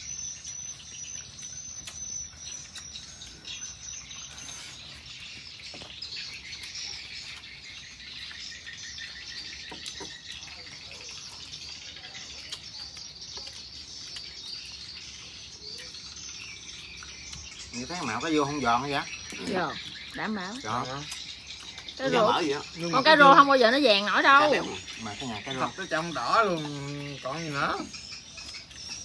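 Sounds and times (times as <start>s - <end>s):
birds chirping: 0.0s - 29.0s
insects trilling: 0.0s - 29.0s.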